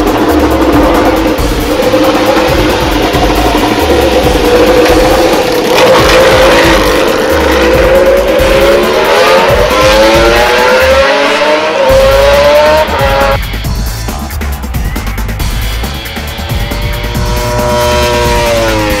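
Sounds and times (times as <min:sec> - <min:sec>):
motorcycle engine revving: 0:00.0 - 0:13.5, 0:15.4 - 0:19.0.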